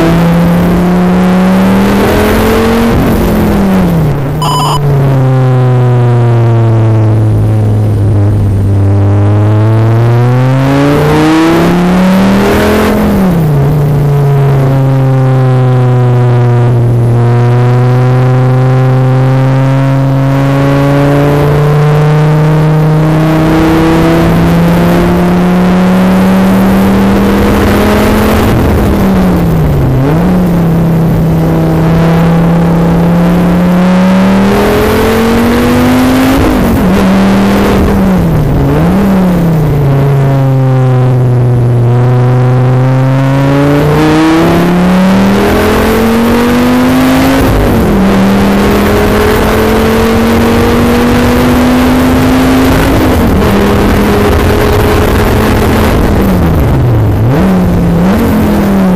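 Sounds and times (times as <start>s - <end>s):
sports car engine revving: 0.0s - 58.9s.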